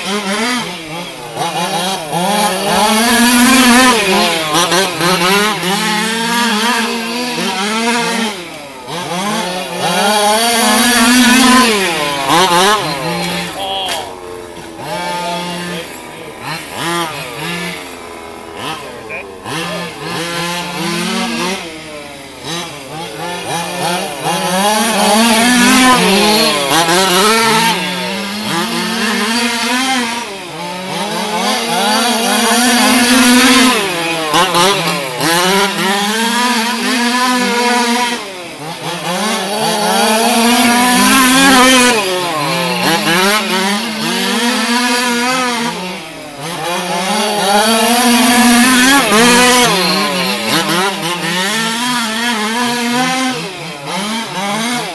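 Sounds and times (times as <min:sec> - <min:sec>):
rc car engines buzzing: 0:00.0 - 0:54.9.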